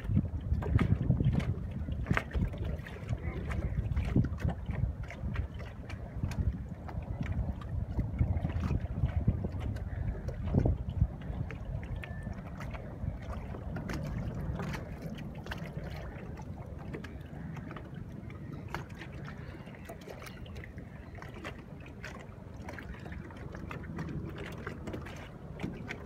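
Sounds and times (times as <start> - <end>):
low steady rumble: 0.0 - 26.0
small clicks and splashes: 0.0 - 26.0
water lapping against boat hull: 0.0 - 26.0.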